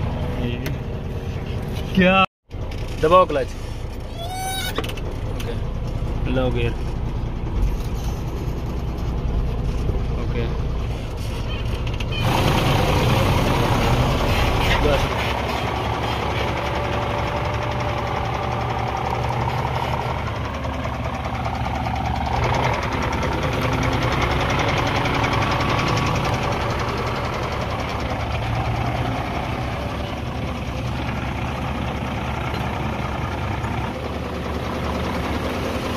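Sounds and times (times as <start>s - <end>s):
diesel truck engine running: 0.0s - 35.9s.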